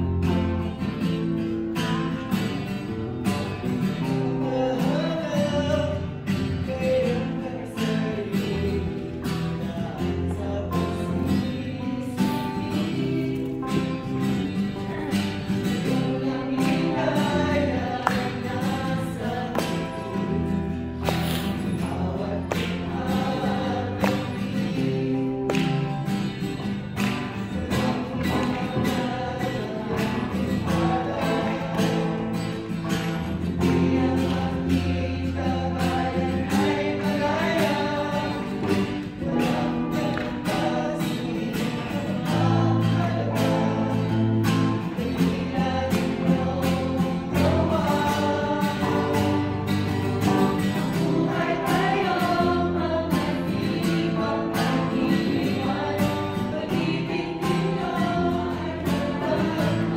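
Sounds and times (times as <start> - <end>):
group singing in unison: 0.0 - 59.9
strummed acoustic guitar: 0.0 - 59.9.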